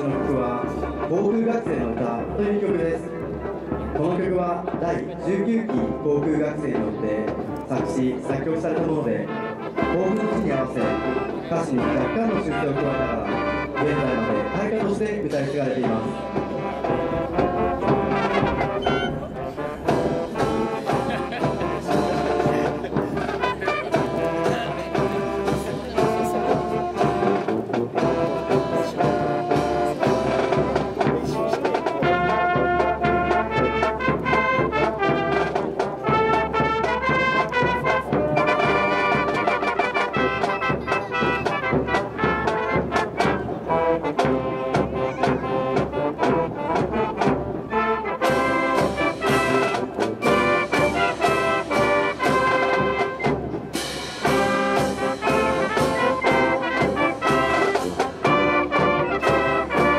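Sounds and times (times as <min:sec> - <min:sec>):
brass band playing a march: 0:00.0 - 0:59.9
marching drums: 0:00.0 - 0:59.9.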